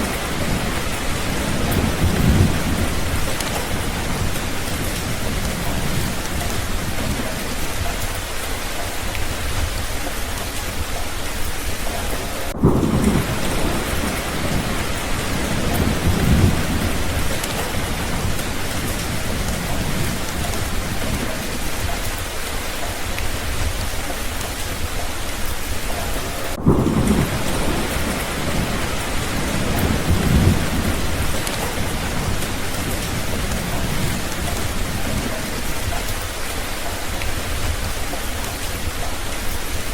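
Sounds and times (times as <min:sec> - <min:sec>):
steady rain falling: 0:00.0 - 0:39.9
thunder rumbling: 0:00.0 - 0:39.9.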